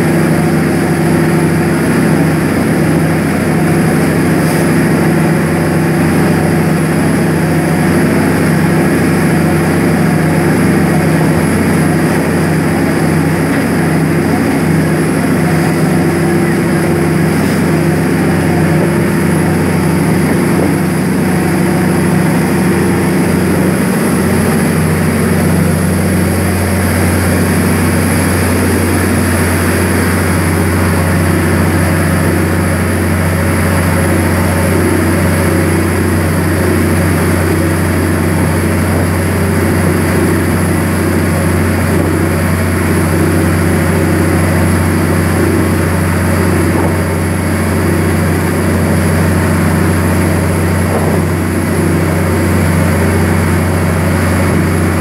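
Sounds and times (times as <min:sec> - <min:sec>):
heavy diesel engine humming: 0:00.0 - 0:55.0
water rushing along hull: 0:00.0 - 0:55.0.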